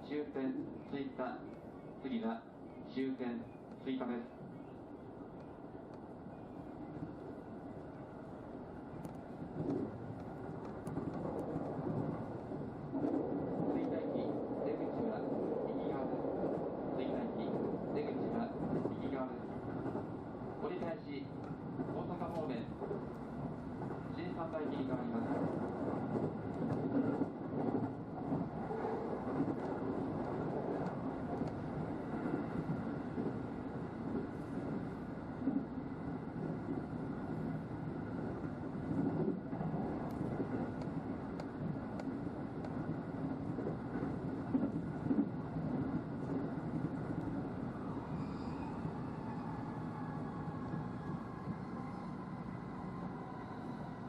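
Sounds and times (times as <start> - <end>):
train wheels rumbling on rails: 9.0 - 54.0.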